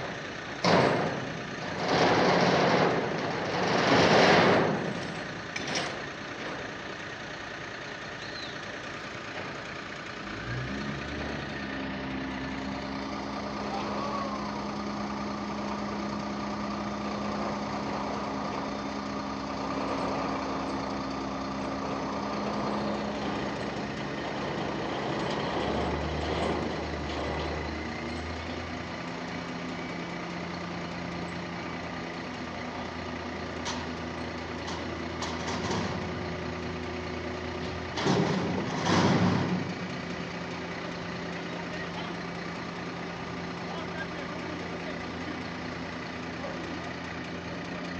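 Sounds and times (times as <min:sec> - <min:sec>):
crane diesel engine running: 0:00.0 - 0:47.9.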